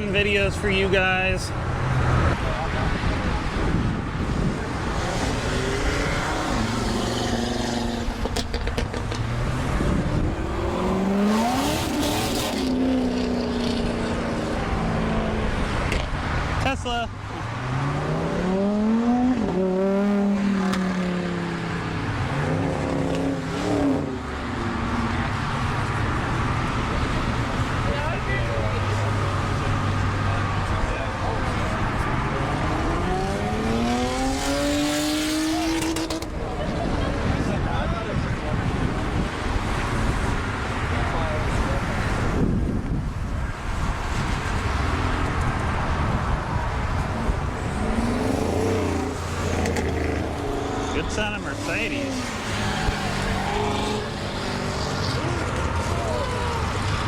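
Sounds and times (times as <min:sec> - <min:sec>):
car engine accelerating hard: 0:01.9 - 0:16.2, 0:17.5 - 0:37.7, 0:43.8 - 0:57.0.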